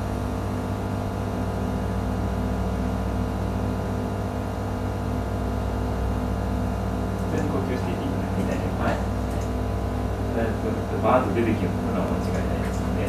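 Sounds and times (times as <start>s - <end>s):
machine hum with held tones: 0.0s - 13.0s.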